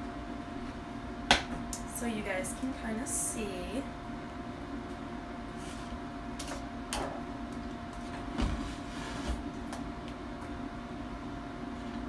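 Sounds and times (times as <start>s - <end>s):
appliance hum: 0.0s - 12.0s.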